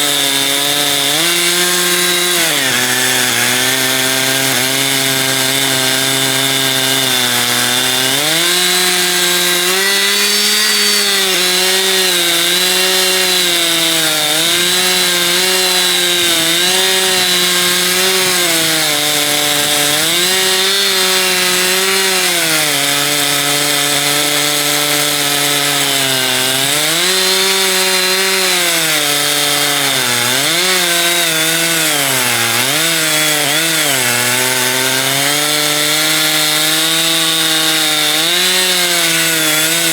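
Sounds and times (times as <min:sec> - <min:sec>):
chainsaw ripping through log: 0:00.0 - 0:39.9.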